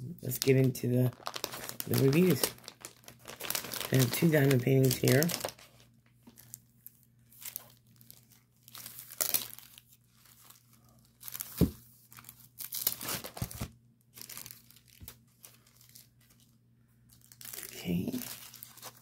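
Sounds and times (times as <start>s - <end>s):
plastic sleeve crinkling: 0.2s - 19.0s.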